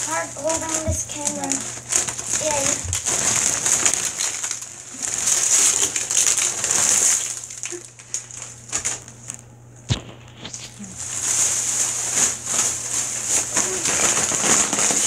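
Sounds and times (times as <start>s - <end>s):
potato chips crackling in bathtub: 0.0s - 15.0s.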